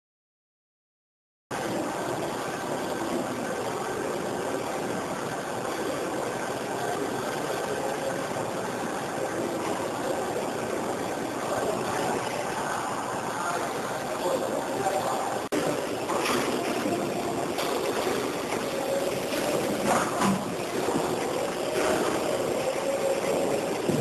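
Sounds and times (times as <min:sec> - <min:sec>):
lathe running: 0:02.1 - 0:24.0.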